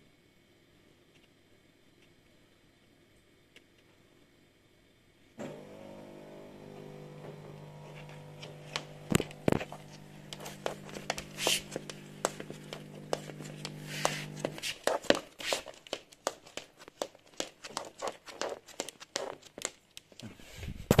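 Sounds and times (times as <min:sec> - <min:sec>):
steady multi-tone hum: 0:00.0 - 0:19.8.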